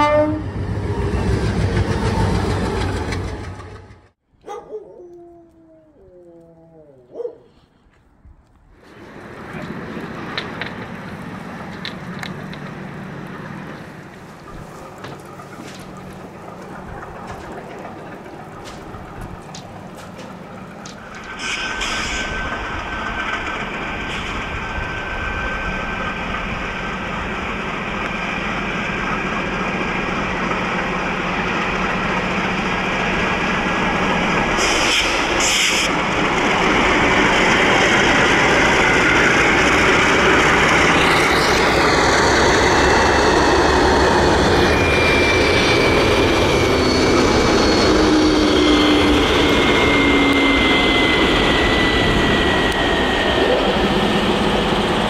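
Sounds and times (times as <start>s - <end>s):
diesel locomotives running: 0.0s - 4.2s, 8.7s - 55.0s.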